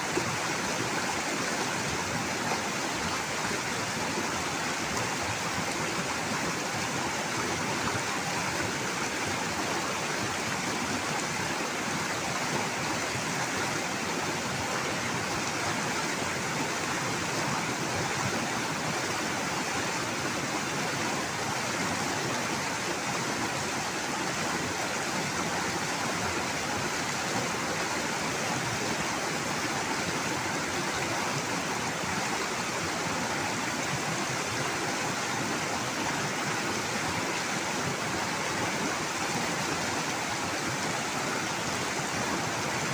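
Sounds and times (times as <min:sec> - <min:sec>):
river rapids rushing over rocks: 0:00.0 - 0:42.9.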